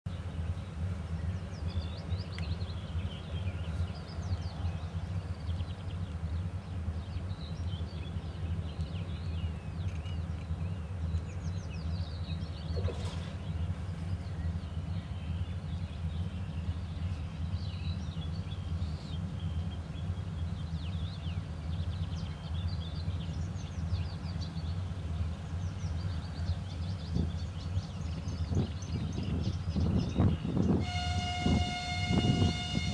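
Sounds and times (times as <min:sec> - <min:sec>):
diesel locomotive engine idling: 0:00.1 - 0:32.9
songbirds chirping: 0:00.1 - 0:32.9.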